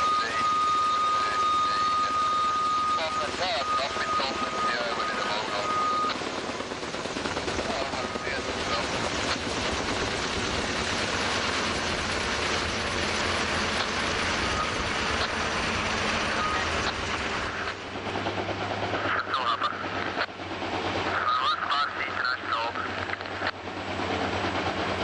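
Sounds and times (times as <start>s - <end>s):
helicopter rotor and engine noise: 0.0s - 25.0s.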